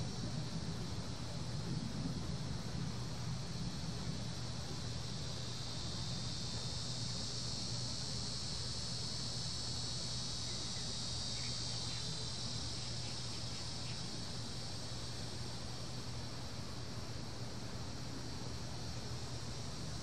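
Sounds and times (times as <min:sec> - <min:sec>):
cicadas droning: 0:00.0 - 0:20.0
low steady hum: 0:00.0 - 0:20.0.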